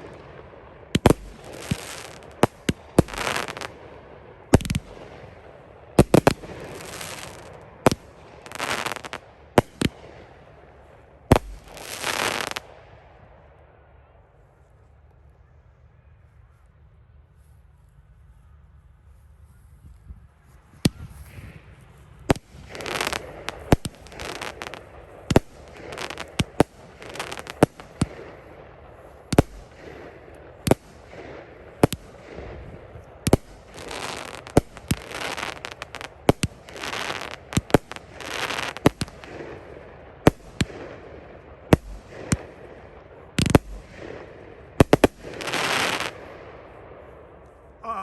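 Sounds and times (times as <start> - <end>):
fireworks bangs: 0.0 - 12.8, 20.8 - 48.0
fireworks crackling: 0.0 - 13.3, 20.7 - 48.0.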